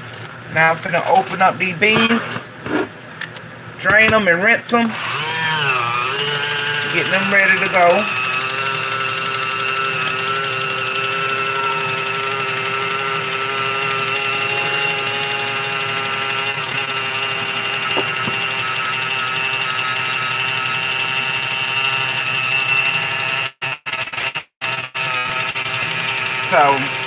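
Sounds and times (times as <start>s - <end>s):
electric can opener motor whine: 4.7s - 27.0s.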